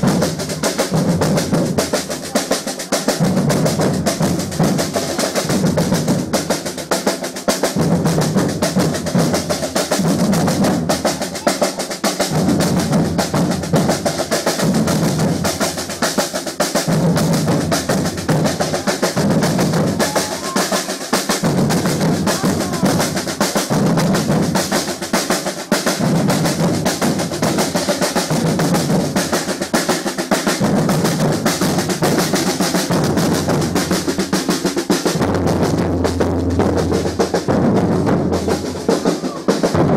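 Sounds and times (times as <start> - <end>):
snare drums rattling: 0.0 - 39.9.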